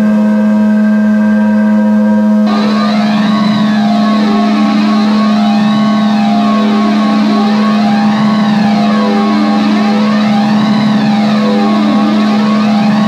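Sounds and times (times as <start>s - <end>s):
synthesizer drone music: 2.3s - 13.0s
siren-like synth sweeps: 2.4s - 13.0s.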